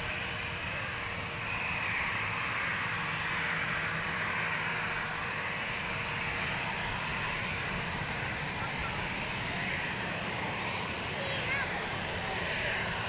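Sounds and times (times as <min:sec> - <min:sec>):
jet engines rushing and whining: 0:00.0 - 0:13.0.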